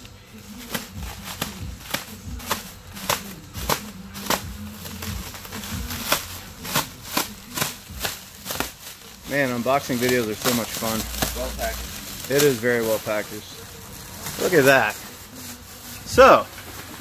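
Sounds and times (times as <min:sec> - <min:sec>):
plastic wrap crinkling and tearing: 0:00.0 - 0:17.0.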